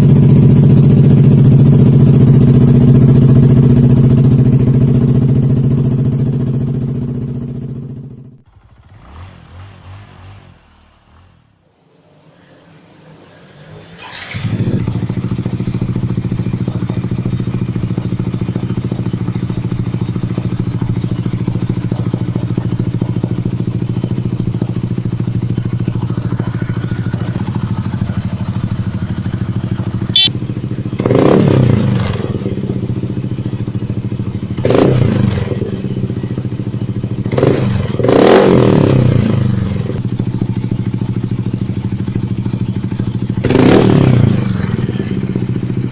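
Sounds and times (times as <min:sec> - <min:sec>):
scooter engine idling and revving: 0:00.0 - 0:11.8, 0:14.0 - 0:45.9.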